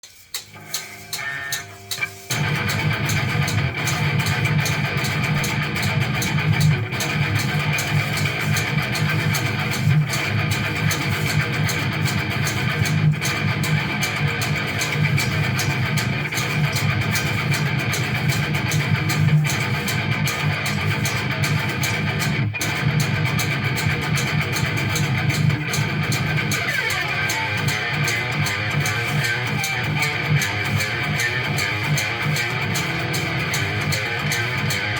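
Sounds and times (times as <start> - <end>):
instrumental guitar music: 0.0 - 34.9.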